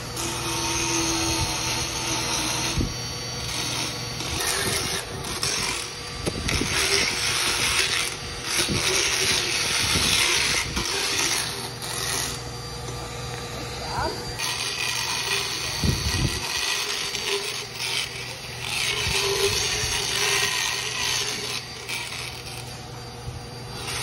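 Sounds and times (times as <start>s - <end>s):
dental float grinding teeth: 0.2s - 12.4s, 14.3s - 22.8s.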